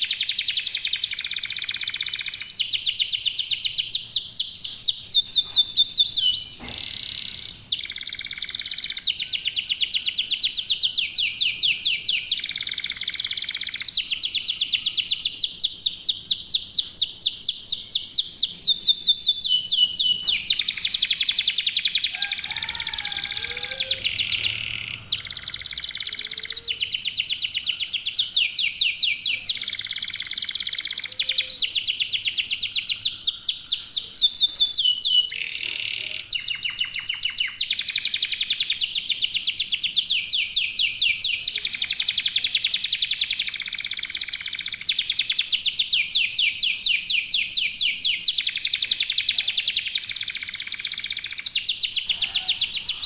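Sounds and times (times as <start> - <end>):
canaries singing trills: 0.0 - 53.0.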